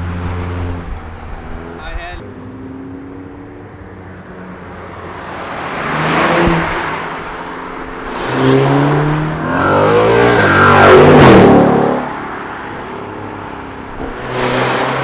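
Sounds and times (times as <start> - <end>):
cars accelerating past: 2.4 - 15.0.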